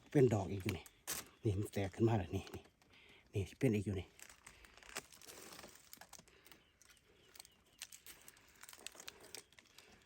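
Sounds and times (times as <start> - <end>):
dry leaves and twigs rustling: 0.0 - 3.0, 3.7 - 10.0.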